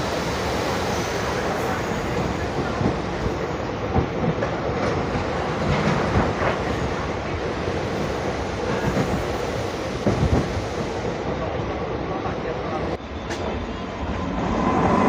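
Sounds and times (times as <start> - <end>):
train rumble and rattle: 0.0 - 15.0.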